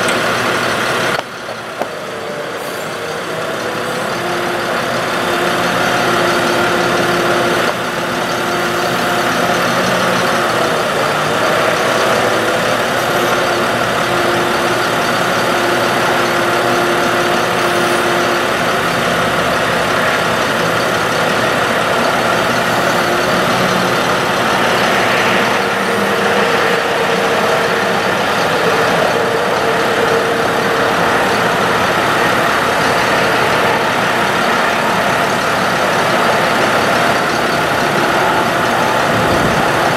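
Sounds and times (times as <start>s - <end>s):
hydraulic tones shifting pitch: 0.0s - 39.9s
truck engine running steadily: 0.0s - 39.9s.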